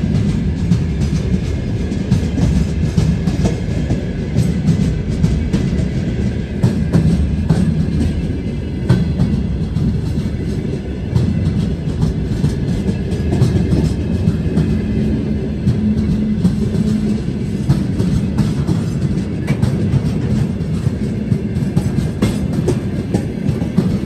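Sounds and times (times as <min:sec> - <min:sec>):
steel wheels rumbling on rail: 0:00.0 - 0:24.0
wheels clacking over rail joints: 0:00.0 - 0:24.0.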